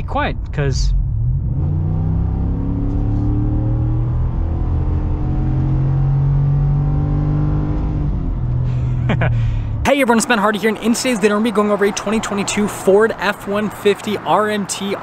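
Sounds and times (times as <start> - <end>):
truck engine accelerating: 0.0 - 14.0.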